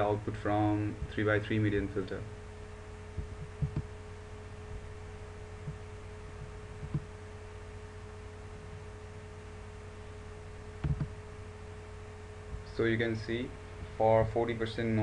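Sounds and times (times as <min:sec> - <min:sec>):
low electrical hum: 0:00.0 - 0:15.0
thin constant whine: 0:00.0 - 0:15.0.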